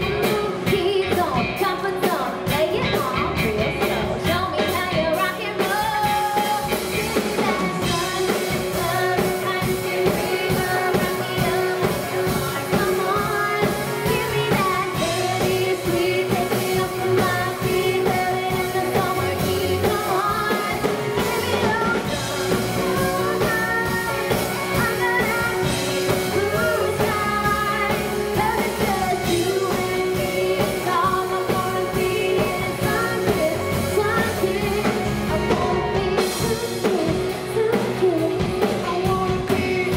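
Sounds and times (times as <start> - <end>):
drum kit beat: 0.0 - 39.9
electric guitar: 0.0 - 39.9
woman singing: 0.0 - 39.9.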